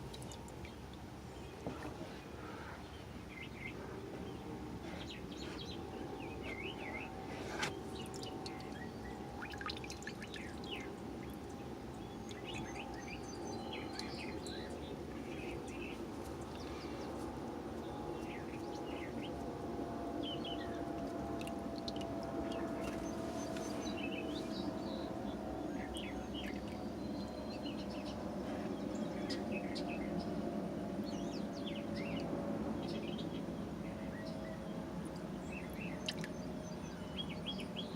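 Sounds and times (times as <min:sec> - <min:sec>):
small birds chirping: 0:00.0 - 0:19.5, 0:20.2 - 0:30.4, 0:31.0 - 0:37.9
airplane drone: 0:00.0 - 0:37.9.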